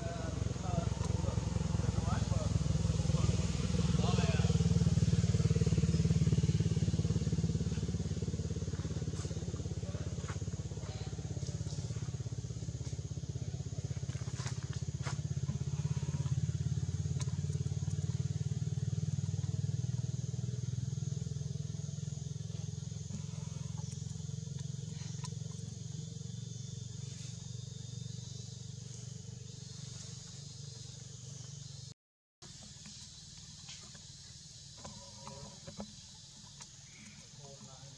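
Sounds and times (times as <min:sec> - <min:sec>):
low motor hum: 0:00.0 - 0:37.9.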